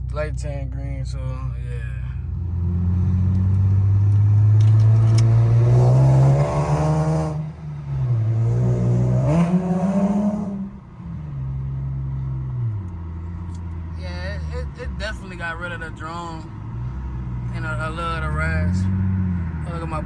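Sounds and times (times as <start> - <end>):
car engine accelerating: 0.0 - 15.0, 16.5 - 20.0.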